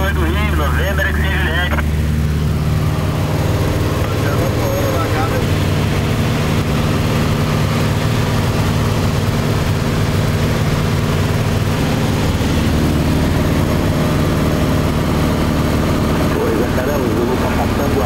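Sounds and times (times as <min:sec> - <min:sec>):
aircraft engine and propeller drone: 0:00.0 - 0:18.0.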